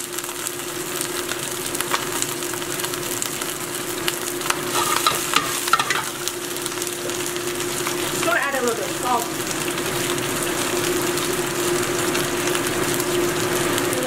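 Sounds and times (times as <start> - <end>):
greens sizzling in hot oil: 0.0 - 14.0
steady hum: 0.5 - 14.0
greens tossed in a wok: 1.3 - 14.0.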